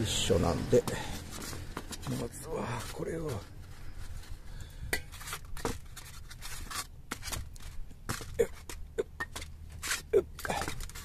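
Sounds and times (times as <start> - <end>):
rustling: 0.7 - 11.0.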